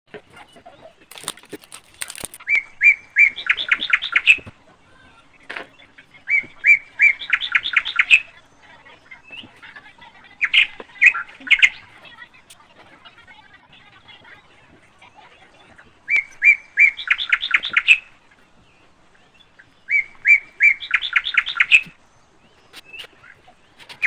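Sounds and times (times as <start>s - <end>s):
songbird singing: 0.1s - 24.0s.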